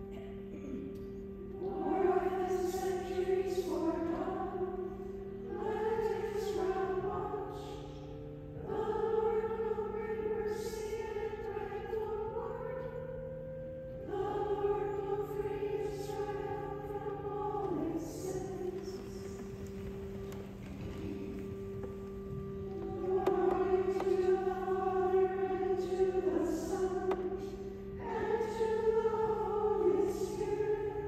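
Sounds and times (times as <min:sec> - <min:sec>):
choir singing a slow hymn: 0:00.0 - 0:31.0
low held notes: 0:00.0 - 0:31.0.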